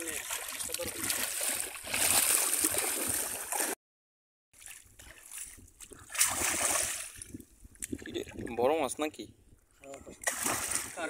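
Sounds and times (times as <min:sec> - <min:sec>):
water splashing and sloshing: 0:00.0 - 0:03.8, 0:04.5 - 0:08.9, 0:09.9 - 0:11.0.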